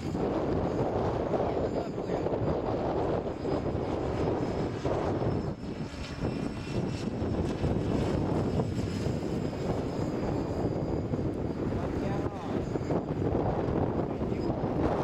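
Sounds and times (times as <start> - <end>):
model helicopter rotors whirring: 0.0 - 15.0
wind rumbling on microphone: 0.0 - 15.0.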